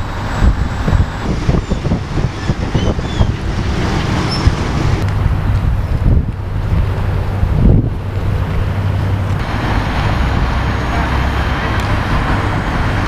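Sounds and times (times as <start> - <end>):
ship engines rumbling: 0.0 - 13.0
wind buffeting microphone: 0.0 - 13.0.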